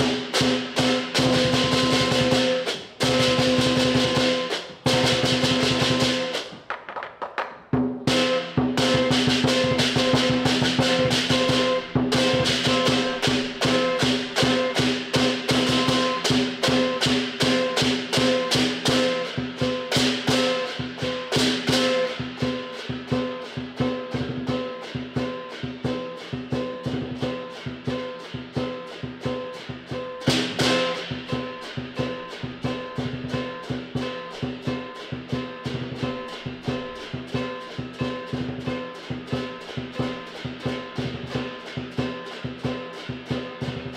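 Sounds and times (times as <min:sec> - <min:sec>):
cymbals crashing: 0:00.0 - 0:06.6, 0:08.0 - 0:43.9
drum beating: 0:00.0 - 0:43.9.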